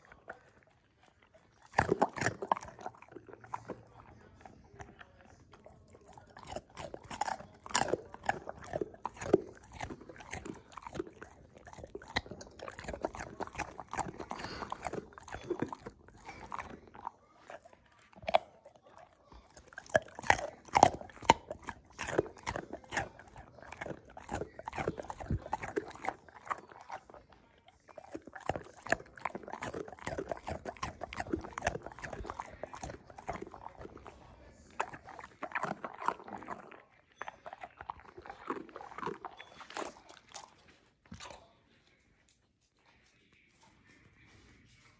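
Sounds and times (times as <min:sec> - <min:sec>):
dog crunching carrot: 0:00.0 - 0:44.9.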